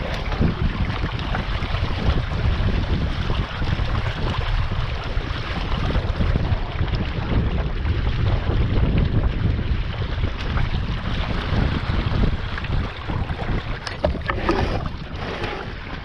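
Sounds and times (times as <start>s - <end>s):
water splashing along hull: 0.0s - 16.0s
wind buffeting microphone: 0.0s - 16.0s.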